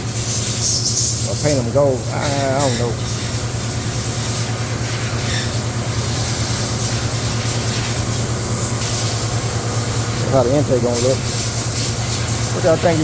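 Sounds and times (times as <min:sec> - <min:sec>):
motor humming with hiss: 0:00.0 - 0:13.0.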